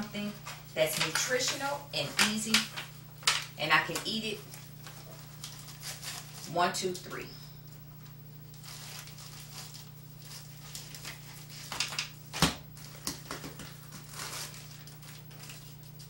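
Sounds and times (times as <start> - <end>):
plastic bags crinkling: 0.0 - 7.3, 8.0 - 16.0.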